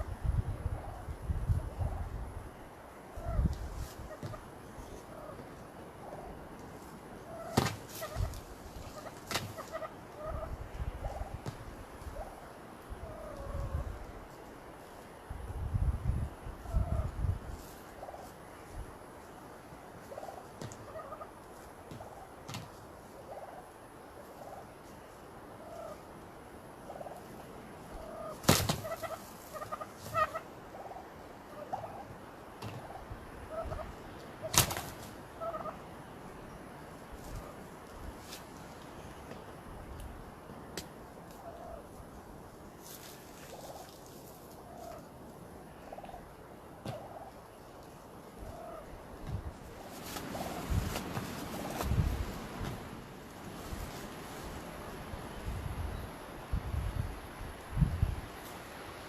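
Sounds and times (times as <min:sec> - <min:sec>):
wild turkeys calling: 0:00.8 - 0:15.1, 0:16.6 - 0:39.6, 0:40.5 - 0:51.8.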